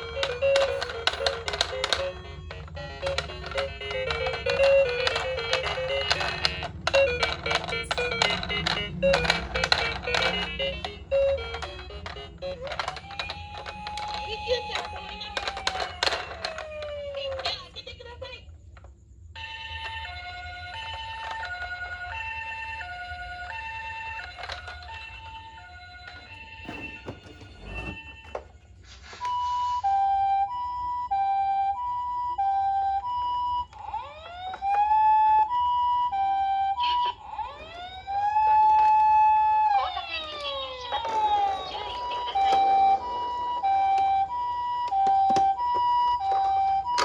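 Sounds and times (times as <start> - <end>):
toy electronic siren: 0.0 - 17.8, 19.4 - 28.5, 29.2 - 47.0.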